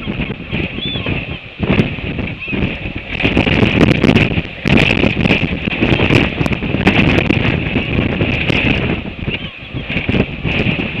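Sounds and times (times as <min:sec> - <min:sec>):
gale wind buffeting microphone: 0:00.0 - 0:11.0.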